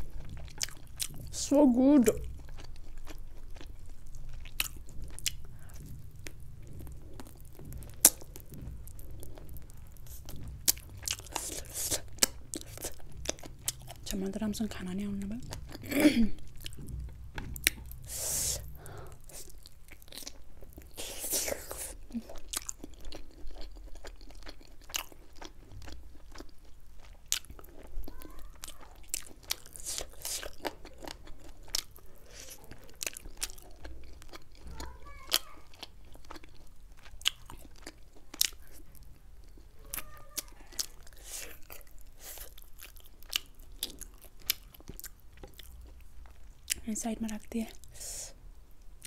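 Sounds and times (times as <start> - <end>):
chewing with sharp crunches: 0.0 - 47.9.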